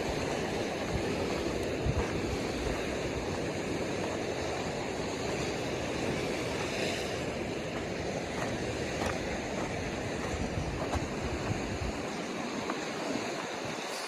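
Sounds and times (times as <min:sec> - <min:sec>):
ocean surf washing: 0:00.0 - 0:14.0
wind: 0:00.0 - 0:14.0.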